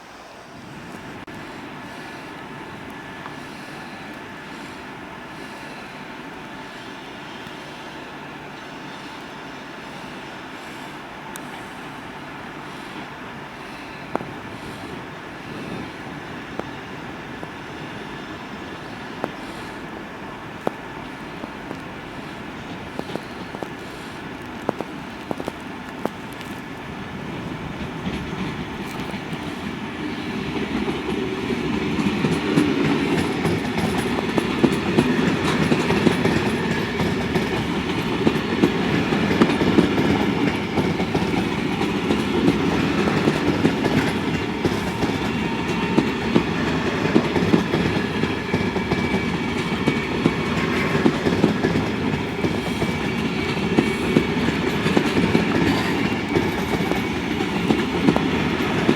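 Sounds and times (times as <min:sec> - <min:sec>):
train running on rails: 0:00.0 - 0:58.9.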